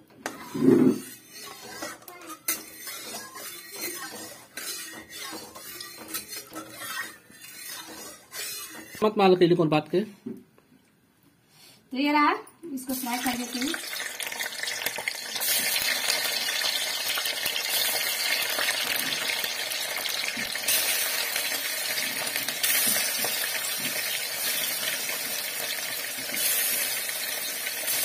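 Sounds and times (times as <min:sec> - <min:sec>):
egg frying in hot oil: 0:01.0 - 0:09.0, 0:12.8 - 0:28.0.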